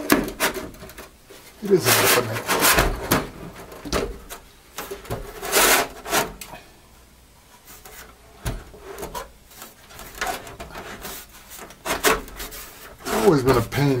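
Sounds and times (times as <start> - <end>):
metal case scraping: 0.0 - 6.4, 7.8 - 13.8.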